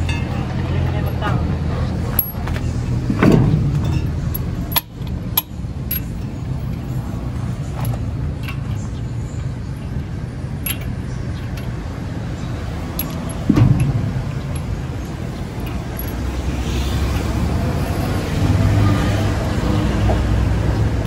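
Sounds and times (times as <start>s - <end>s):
metallic clinks of wheel nuts: 0.0s - 1.4s, 2.1s - 18.2s
engine humming: 0.0s - 21.0s.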